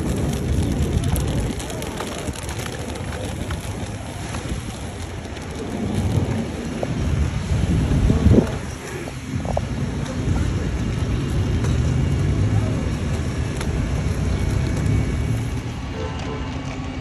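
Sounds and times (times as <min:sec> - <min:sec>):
city street noise: 0:00.0 - 0:17.0
wind buffeting microphone: 0:00.0 - 0:17.0.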